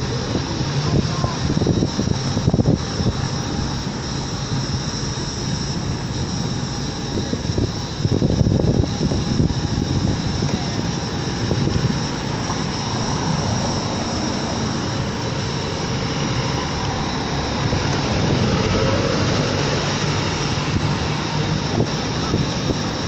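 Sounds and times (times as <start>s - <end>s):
road and wind noise: 0.0s - 23.0s.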